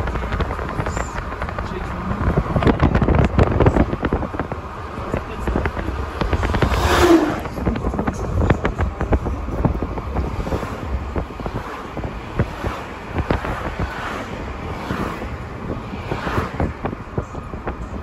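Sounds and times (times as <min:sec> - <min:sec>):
road rumble: 0:00.0 - 0:18.0
truck passing: 0:00.0 - 0:18.0
wind buffeting microphone: 0:00.0 - 0:18.0.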